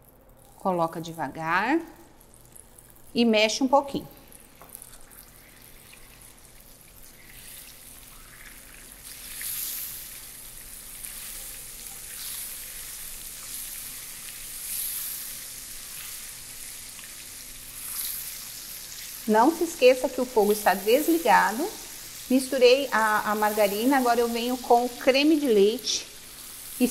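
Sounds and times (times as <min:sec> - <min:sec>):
margarine sizzling in hot caramel: 0:00.3 - 0:26.9.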